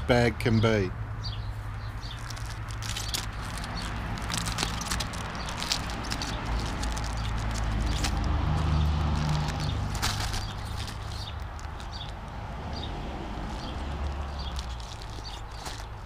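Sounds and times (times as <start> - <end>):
rustling and clicks of items packed: 2.0 - 16.0.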